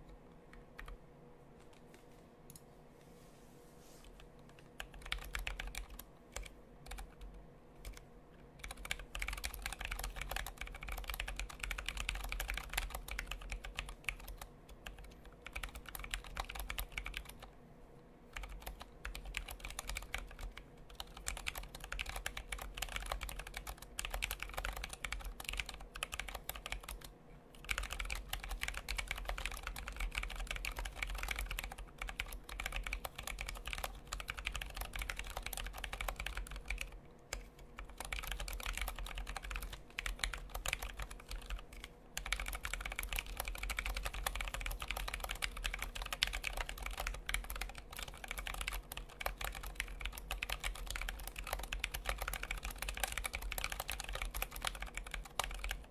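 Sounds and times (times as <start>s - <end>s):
fast typing on mechanical keyboard: 4.5s - 8.0s, 8.6s - 17.5s, 18.3s - 55.9s.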